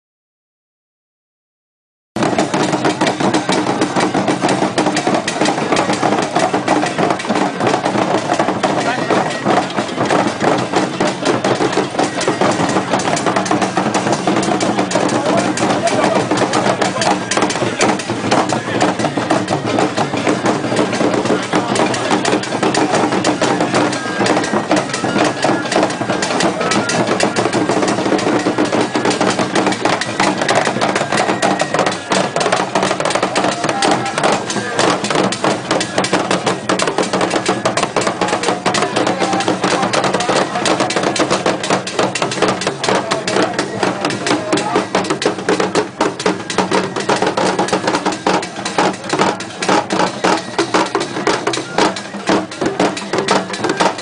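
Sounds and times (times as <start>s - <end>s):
crowd voices: 2.2s - 54.0s
drums beaten in fast rhythm: 2.2s - 54.0s
fast percussive strikes: 2.2s - 54.0s.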